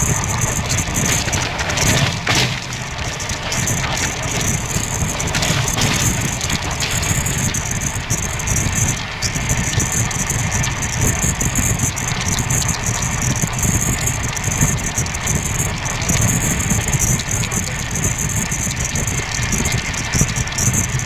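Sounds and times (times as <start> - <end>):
train rumbling with faint clicks: 0.0 - 21.0.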